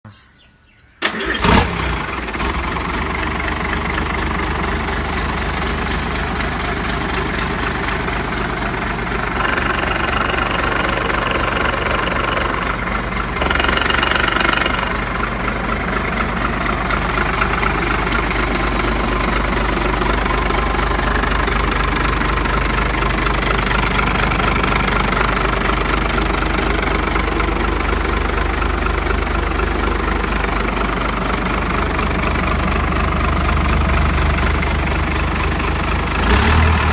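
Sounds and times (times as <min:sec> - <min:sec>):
outboard motor idling: 0:02.0 - 0:36.2.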